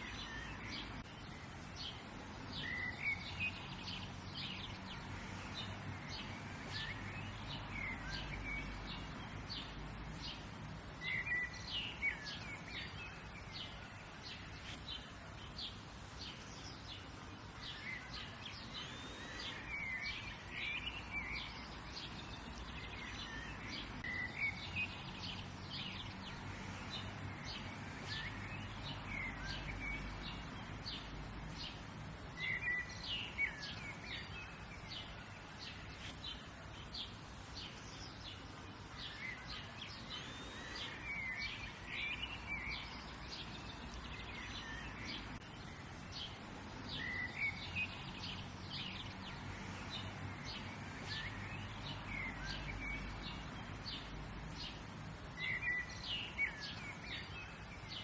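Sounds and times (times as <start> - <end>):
soft background hiss: 0.0 - 58.0
songbirds chirping: 0.0 - 58.0.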